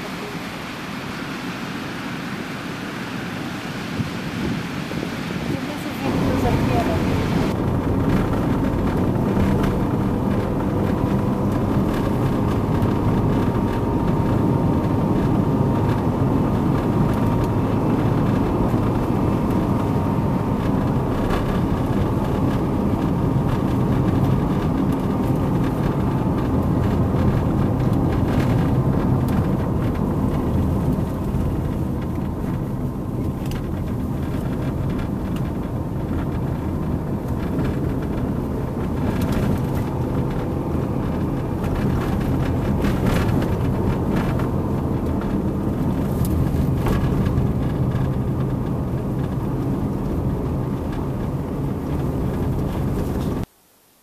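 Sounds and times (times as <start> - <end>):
car engine and tyres rumbling: 0.0 - 53.6
faint whine: 0.0 - 54.0.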